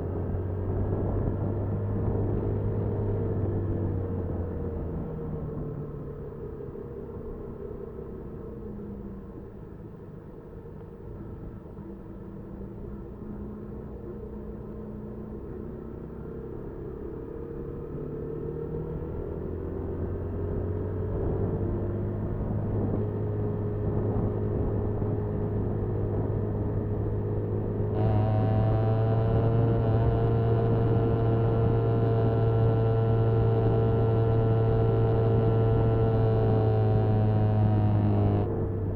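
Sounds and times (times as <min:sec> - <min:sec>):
motorcycle engine and road noise: 0:00.0 - 0:38.9.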